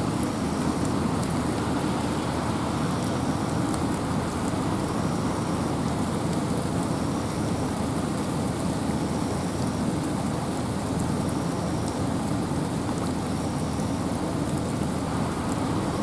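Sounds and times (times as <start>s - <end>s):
wind and rain hiss: 0.0s - 16.0s.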